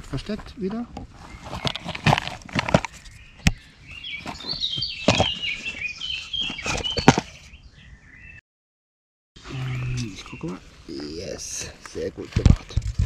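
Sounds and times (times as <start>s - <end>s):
songbirds singing: 0.2s - 8.4s, 9.4s - 12.3s.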